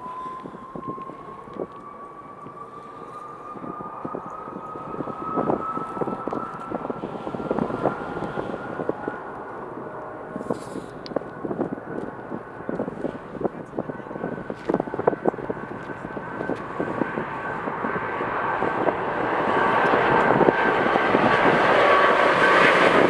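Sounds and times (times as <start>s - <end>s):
jet engine whine: 0.0s - 23.0s
wind buffeting microphone: 0.0s - 23.0s.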